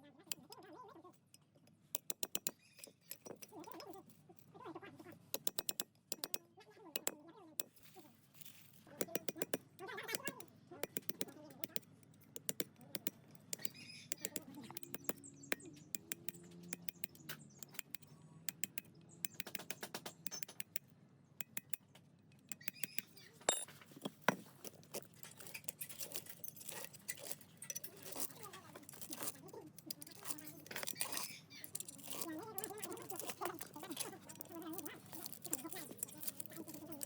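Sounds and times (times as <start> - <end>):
clicks and taps on metal parts: 0.2 - 4.5, 5.2 - 37.0.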